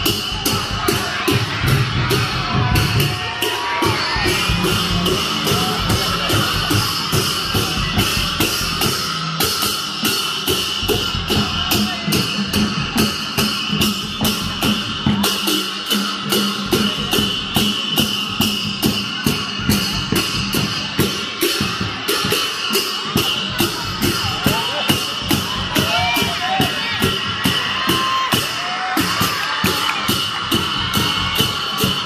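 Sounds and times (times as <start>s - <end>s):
cymbals clashing: 0.0s - 32.0s.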